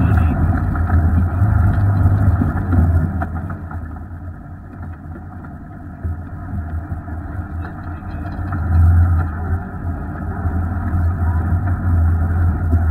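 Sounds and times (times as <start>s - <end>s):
off-road vehicle engine droning: 0.0s - 12.9s.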